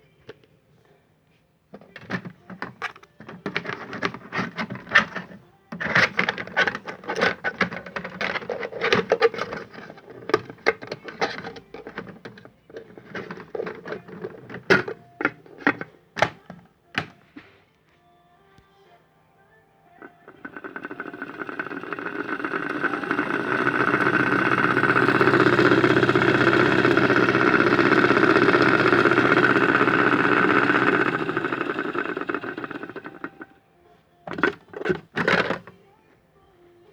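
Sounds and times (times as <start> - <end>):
toy washing machine spinning: 1.8 - 16.4, 20.0 - 33.6, 34.3 - 35.7
fast plastic clattering: 1.8 - 17.2, 20.0 - 33.6, 34.3 - 35.8.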